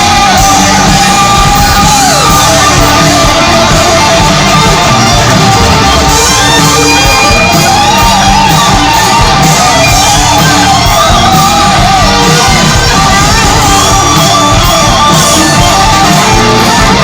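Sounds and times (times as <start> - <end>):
hard rock music: 0.0 - 17.0.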